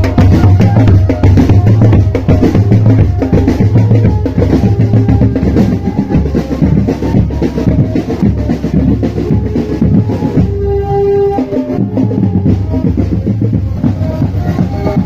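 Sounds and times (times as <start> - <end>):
bass drum beats: 0.0 - 15.0
held melodic notes: 0.0 - 15.0
snare drum rolls: 0.0 - 15.0.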